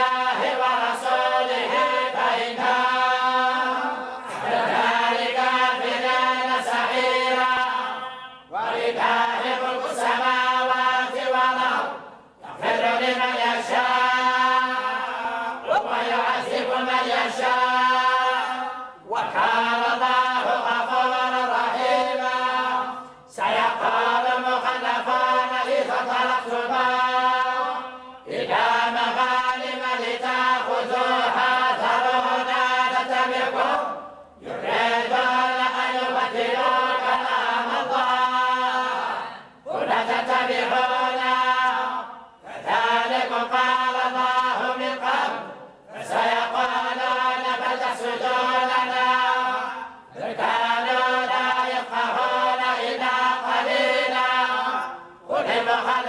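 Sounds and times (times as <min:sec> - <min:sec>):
group chanting in unison: 0:00.0 - 0:56.0.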